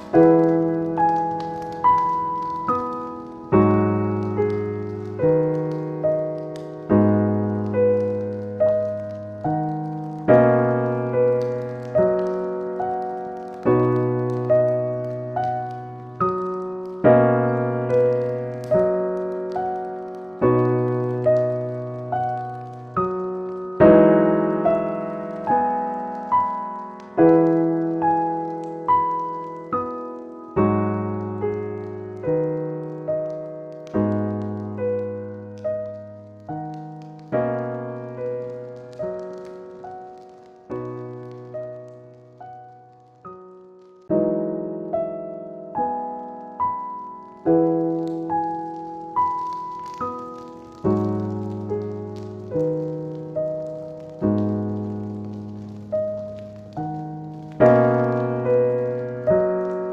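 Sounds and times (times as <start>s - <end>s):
slow gentle piano music: 0.0s - 59.9s
wood fire crackling: 0.0s - 59.9s.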